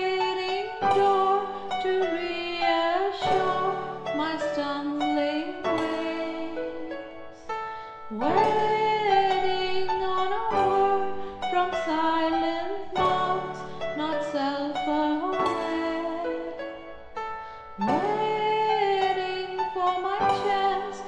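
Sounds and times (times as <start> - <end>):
instrumental backing track: 0.0 - 21.0
lead melody with sliding notes: 0.0 - 21.0.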